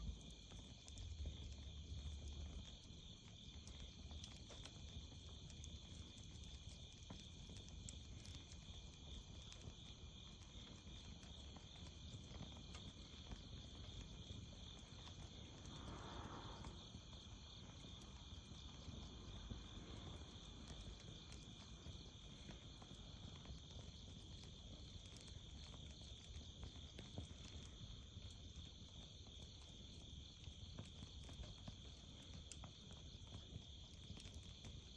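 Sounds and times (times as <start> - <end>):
crickets and insects trilling: 0.0 - 34.9.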